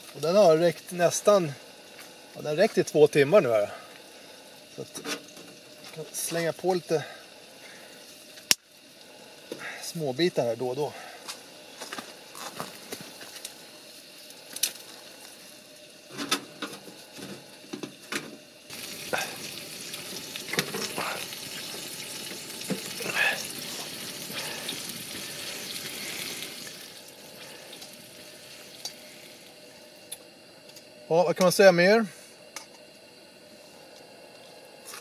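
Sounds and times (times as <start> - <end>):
wood fire crackling: 0.0 - 31.7.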